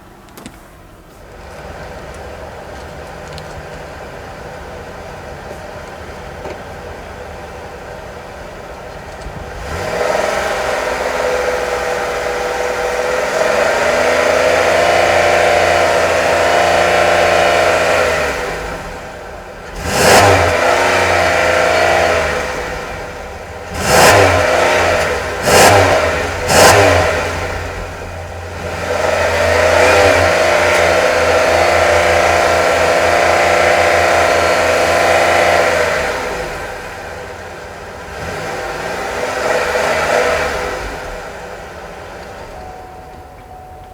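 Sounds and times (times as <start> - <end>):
car engine revving: 6.1 - 43.9.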